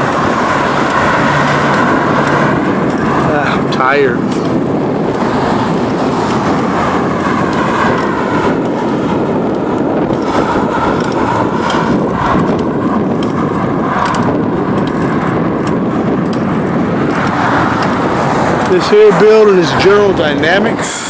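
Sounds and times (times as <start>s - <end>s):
traffic passing by: 0.0s - 21.0s
wind and road rushing noise: 0.0s - 21.0s.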